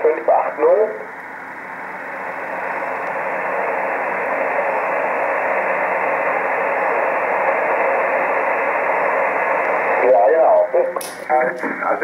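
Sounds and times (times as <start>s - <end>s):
shortwave radio hiss: 0.0s - 12.0s.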